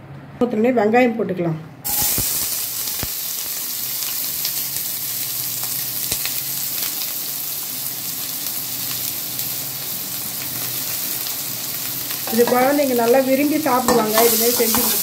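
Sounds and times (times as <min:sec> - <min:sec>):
onions sizzling in hot oil: 0:01.8 - 0:15.0.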